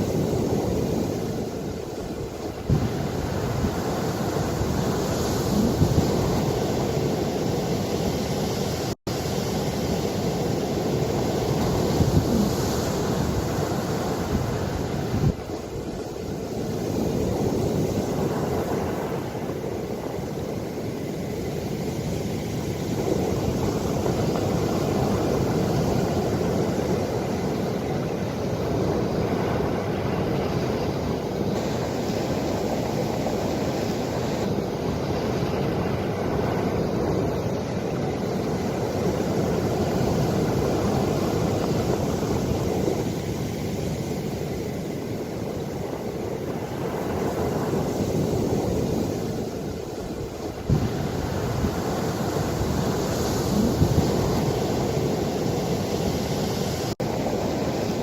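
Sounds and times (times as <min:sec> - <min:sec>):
ocean waves rushing: 0:00.0 - 0:58.0.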